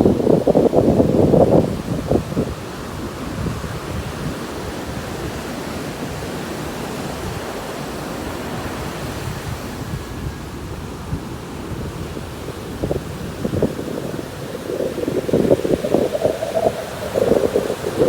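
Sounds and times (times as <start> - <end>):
ocean surf breaking: 0.0 - 18.0
wind rushing over microphone: 0.0 - 18.0.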